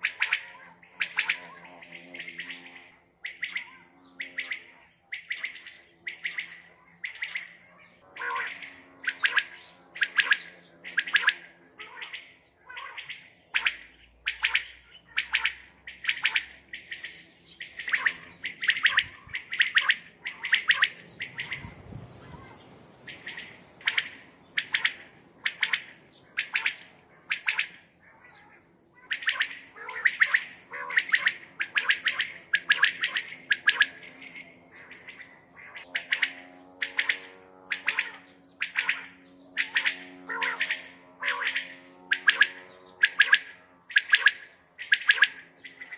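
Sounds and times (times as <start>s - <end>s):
quail calling: 0.0s - 45.9s.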